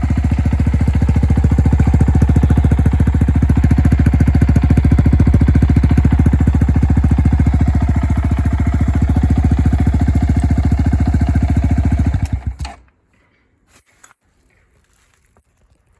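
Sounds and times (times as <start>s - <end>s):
motorcycle engine idling: 0.0s - 12.8s.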